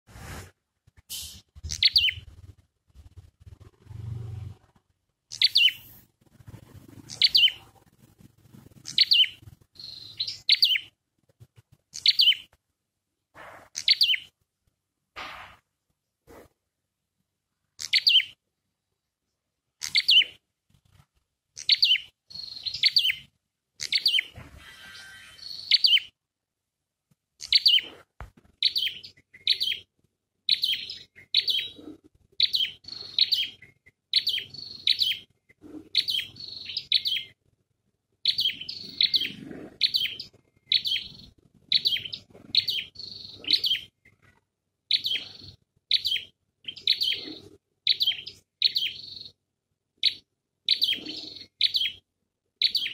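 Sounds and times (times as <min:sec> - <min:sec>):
caged bird chirping: 0:01.1 - 0:12.6, 0:13.4 - 0:14.4, 0:17.8 - 0:18.4, 0:19.8 - 0:21.0, 0:21.6 - 0:26.2, 0:27.4 - 0:37.4, 0:38.2 - 0:49.4, 0:50.0 - 0:52.9.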